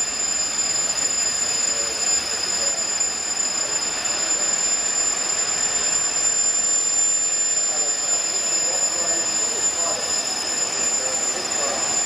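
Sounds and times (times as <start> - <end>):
high-pitched turbine whine: 0.0 - 12.0.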